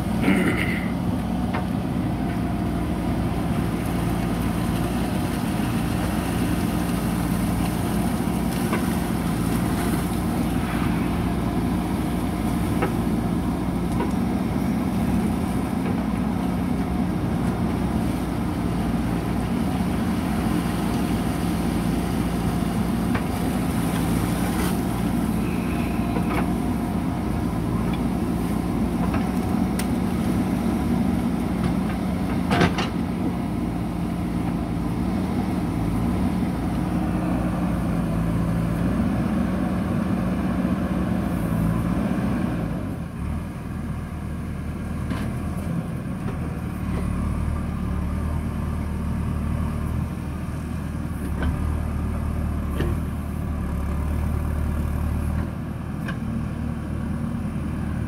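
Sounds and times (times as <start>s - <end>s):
backhoe digging soil: 0.0s - 58.0s
diesel engine running: 0.0s - 58.0s.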